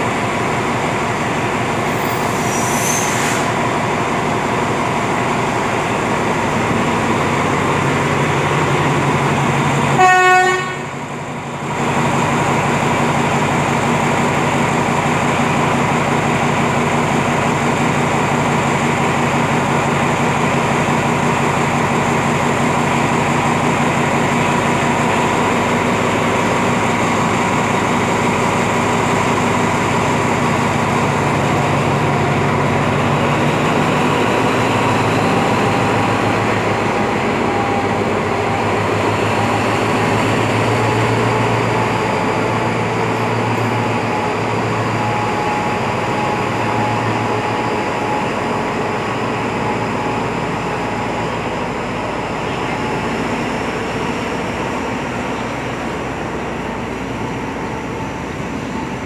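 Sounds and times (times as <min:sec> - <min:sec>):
train coaches rumbling: 0:00.0 - 0:59.0.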